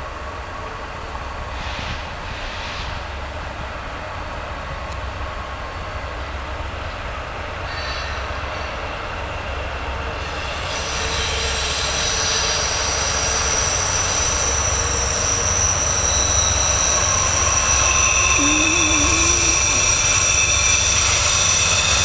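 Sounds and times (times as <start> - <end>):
low train rumble: 0.0 - 22.0
train wheels squealing: 1.4 - 3.4, 5.8 - 22.0.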